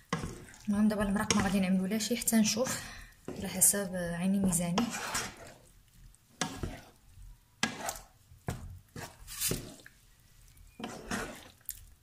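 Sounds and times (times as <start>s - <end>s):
wooden spoon scraping a frying pan: 0.0s - 12.0s.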